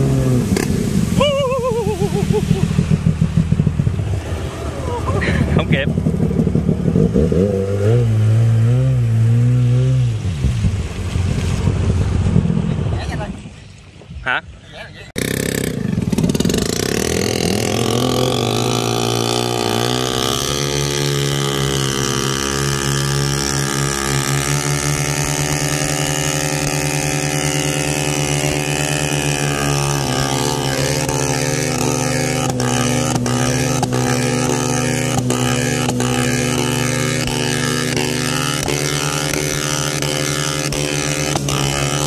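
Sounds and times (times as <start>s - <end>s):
boat engine running: 0.0s - 13.4s, 15.1s - 42.0s.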